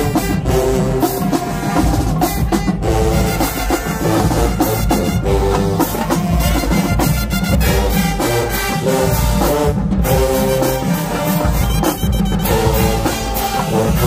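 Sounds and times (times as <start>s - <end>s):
snare drums beating: 0.0s - 14.0s
sousaphones and horns playing: 0.0s - 14.0s.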